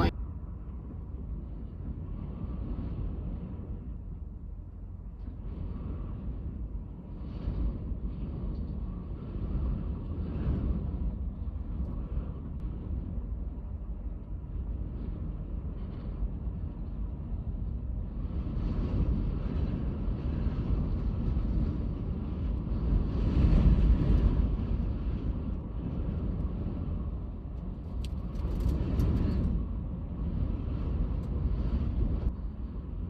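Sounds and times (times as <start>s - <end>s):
strong wind gusting: 0.0s - 33.0s.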